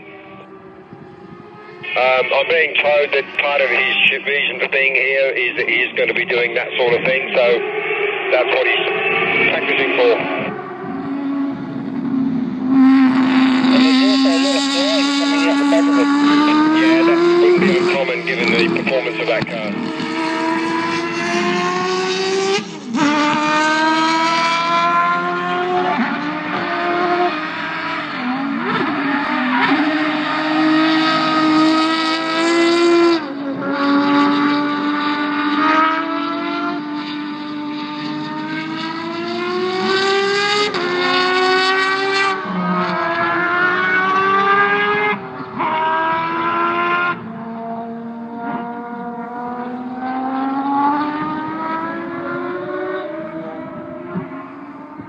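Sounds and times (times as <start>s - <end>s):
rally car engine revving hard: 10.4s - 55.0s.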